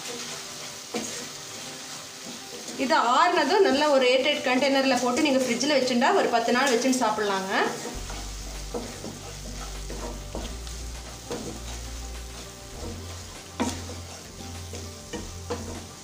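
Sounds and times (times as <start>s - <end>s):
wooden spatula scraping pan: 0.0s - 5.6s, 6.7s - 16.0s
paste sizzling: 0.0s - 16.0s.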